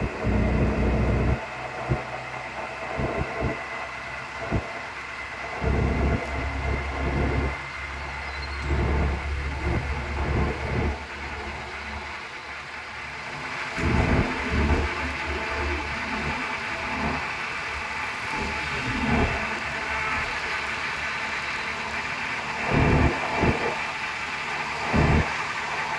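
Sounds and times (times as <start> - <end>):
rickshaw running on road: 0.0 - 25.9.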